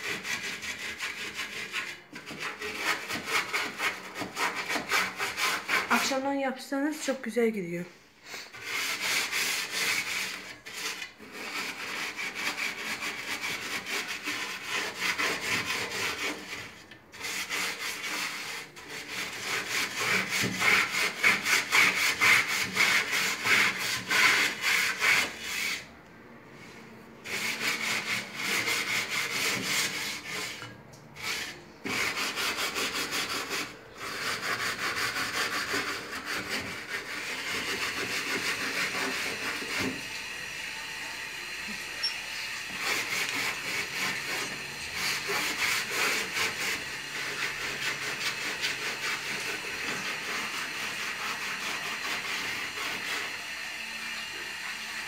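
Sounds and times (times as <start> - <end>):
steel wool scrubbing oven: 0.0 - 7.1, 8.4 - 55.0.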